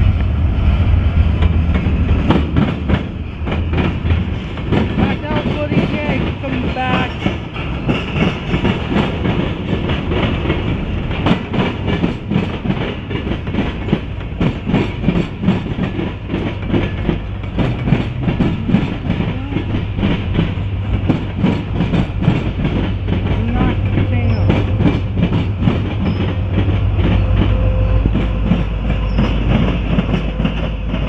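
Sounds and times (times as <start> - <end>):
low train rumble: 0.0 - 31.0
wheels clattering over rail joints: 1.4 - 31.0.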